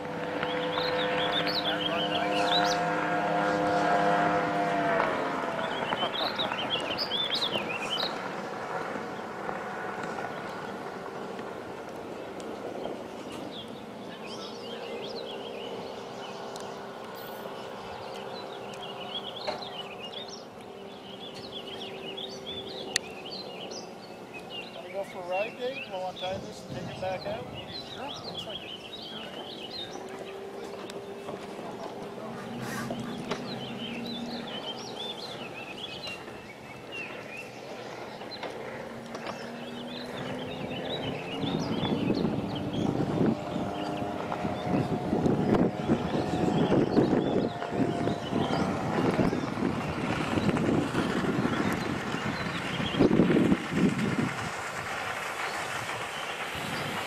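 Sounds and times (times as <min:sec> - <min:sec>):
distant boat engine hum: 0:00.0 - 0:57.0
outboard motor droning: 0:00.0 - 0:57.0
small birds chirping: 0:00.4 - 0:03.2, 0:05.2 - 0:57.0.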